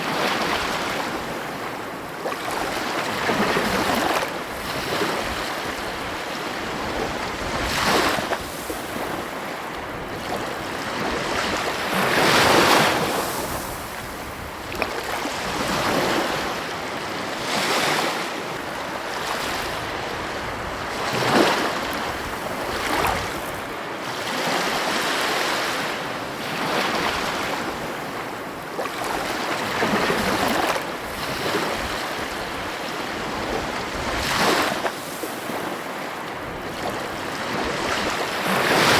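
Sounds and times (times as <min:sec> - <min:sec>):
wind noise on microphone: 0:00.0 - 0:25.0, 0:29.0 - 0:35.8, 0:36.4 - 0:38.9
ocean waves breaking on beach: 0:00.0 - 0:38.9.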